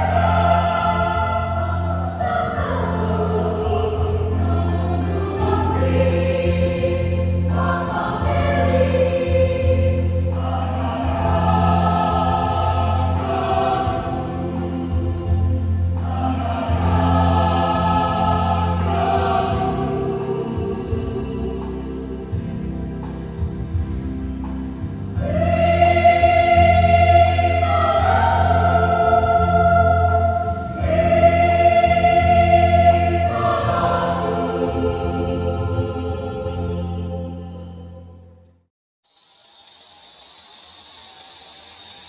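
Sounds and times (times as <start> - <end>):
choir singing a hymn: 0.0 - 38.3
steady low hum: 0.0 - 38.4.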